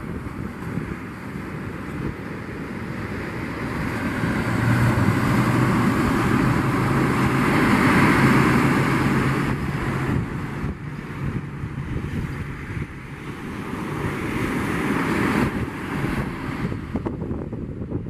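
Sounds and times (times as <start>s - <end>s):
outboard motors running: 0.0s - 17.2s
surf: 0.0s - 18.0s
wind on microphone: 0.0s - 18.0s.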